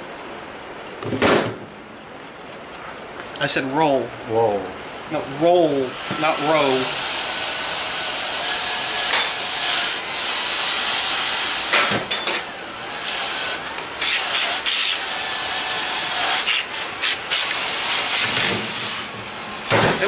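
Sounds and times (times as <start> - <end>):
steady hiss: 3.0 - 20.0.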